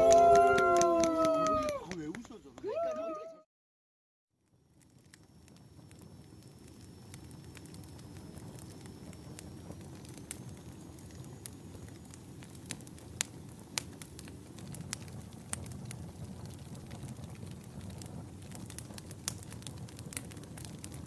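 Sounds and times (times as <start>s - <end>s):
burning logs crackling and popping: 0.0s - 3.0s, 4.4s - 21.0s
campfire flames rushing: 0.0s - 3.1s, 4.4s - 21.0s.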